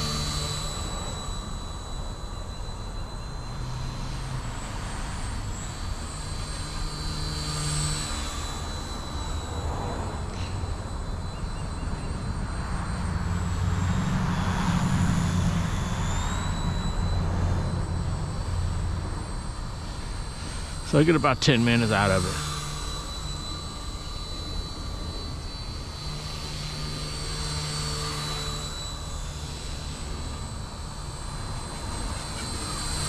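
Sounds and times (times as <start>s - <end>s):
low rotor rumble: 0.0s - 33.0s
rc helicopter motor whine: 0.0s - 33.0s.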